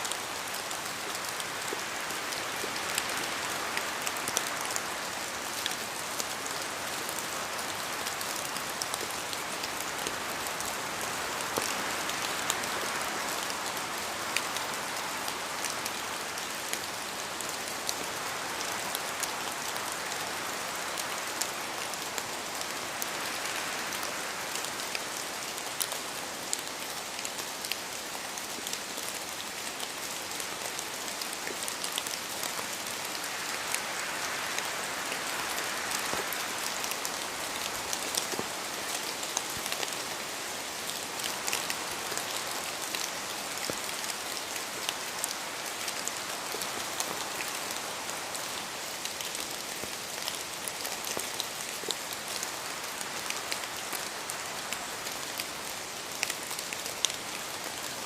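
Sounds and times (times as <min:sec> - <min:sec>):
raindrops striking close by: 0:00.0 - 0:58.0
steady rain: 0:00.0 - 0:58.0.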